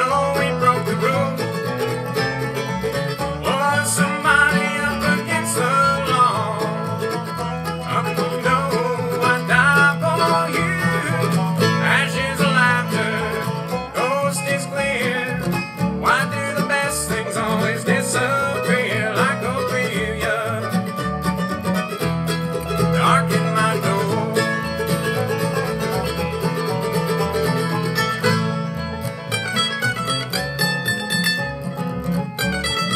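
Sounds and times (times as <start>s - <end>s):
acoustic guitar: 0.0s - 32.9s
banjo: 0.0s - 32.9s
mandolin: 0.0s - 32.9s
upright bass: 0.0s - 32.9s.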